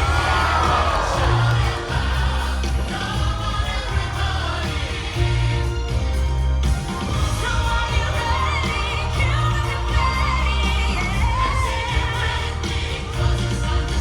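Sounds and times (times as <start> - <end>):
heavy bass: 0.0 - 14.0
pop song with singing voice: 0.0 - 14.0.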